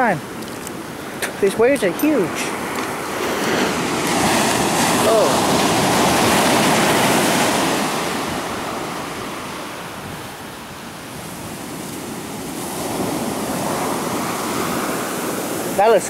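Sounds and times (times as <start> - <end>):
waves breaking: 0.0 - 16.0.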